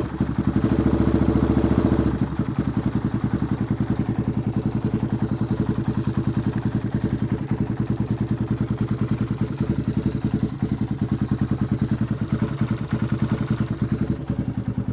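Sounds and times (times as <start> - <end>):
atv engine idling: 0.0 - 14.9.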